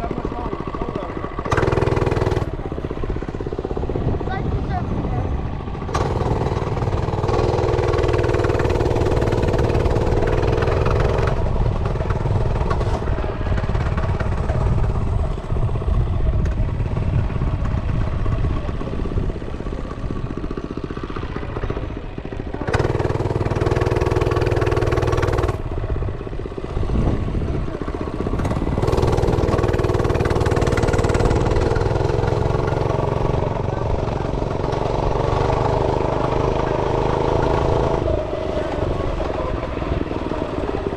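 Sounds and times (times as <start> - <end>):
mini bike engine running: 0.0 - 40.9.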